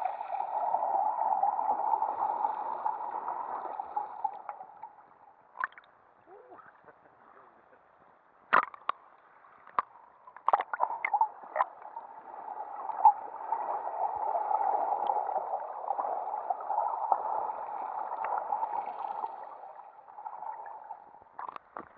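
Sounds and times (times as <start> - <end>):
muffled underwater water rush: 0.0 - 6.7, 8.5 - 21.9.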